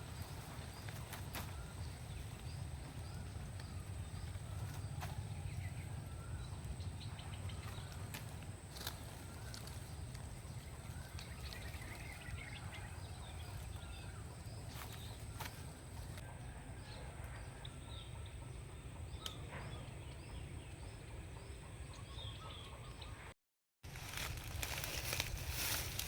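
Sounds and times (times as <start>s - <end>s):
bird chirps: 0.0s - 23.3s.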